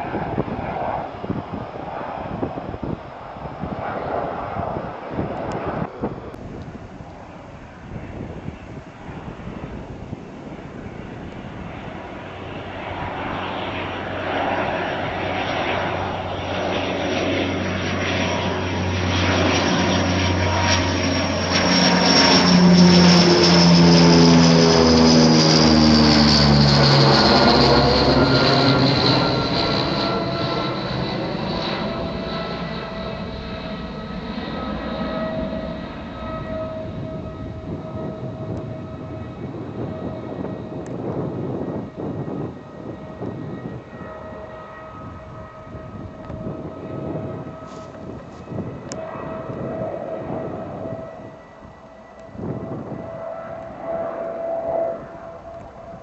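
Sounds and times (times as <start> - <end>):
turboprop aircraft flying overhead: 0.0 - 56.0.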